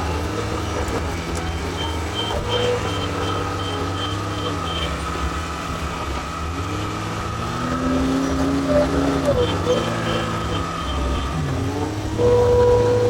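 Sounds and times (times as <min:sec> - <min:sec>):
diesel engine running: 0:00.0 - 0:13.0
engine whine: 0:00.0 - 0:13.0.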